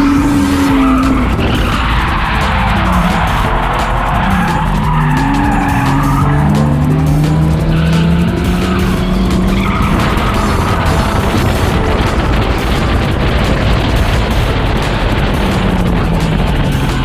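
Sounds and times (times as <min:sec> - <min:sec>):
car engine revving: 0:00.0 - 0:17.0
tyres skidding and squealing: 0:00.0 - 0:17.0.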